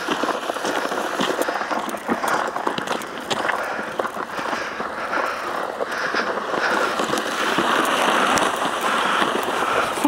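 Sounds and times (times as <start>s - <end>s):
plastic sled scraping on icy snow: 0.0s - 10.0s.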